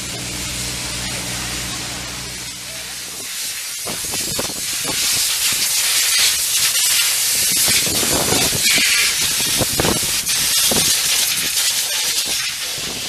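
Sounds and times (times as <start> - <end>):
hose jet hissing: 0.0 - 13.0.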